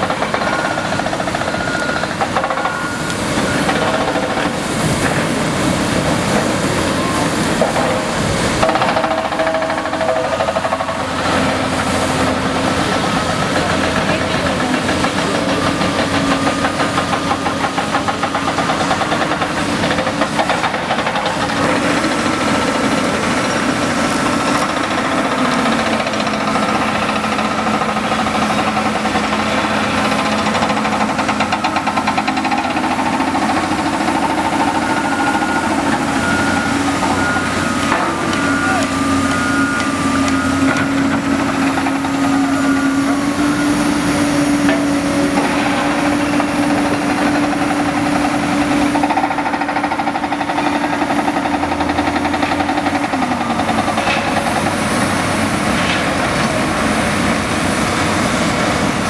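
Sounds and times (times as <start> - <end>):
excavator diesel engines and hydraulics: 0.0 - 59.0.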